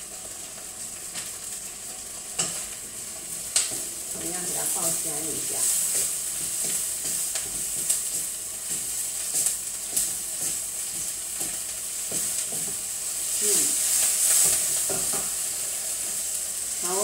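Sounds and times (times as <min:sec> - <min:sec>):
food sizzling in hot oil: 0:00.0 - 0:17.0
spatula scraping and knocking pan: 0:02.4 - 0:16.2.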